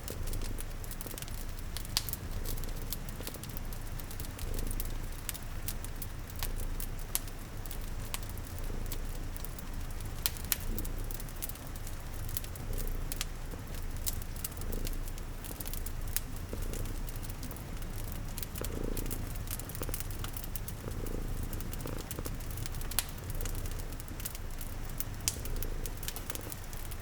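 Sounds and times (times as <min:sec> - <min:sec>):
cat purring: 0:00.0 - 0:27.0
wood fire crackling: 0:00.0 - 0:27.0
rain hiss: 0:00.1 - 0:27.0.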